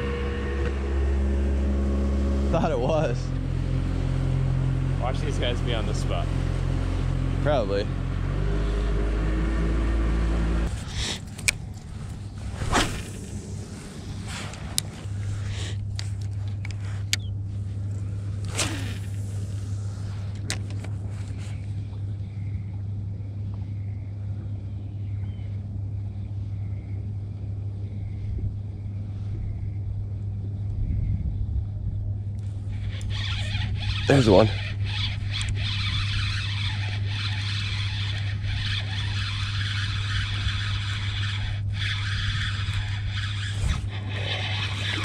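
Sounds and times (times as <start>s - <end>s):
boat motor humming: 0.0s - 30.6s, 32.0s - 45.0s.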